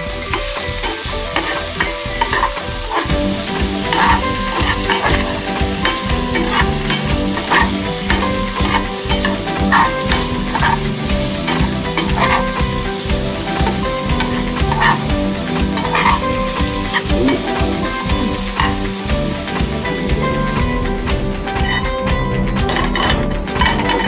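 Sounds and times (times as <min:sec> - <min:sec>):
vegetables sizzling in hot oil: 0:00.0 - 0:24.0
spatula scraping a pan: 0:00.3 - 0:20.7, 0:21.5 - 0:22.0, 0:22.6 - 0:24.0.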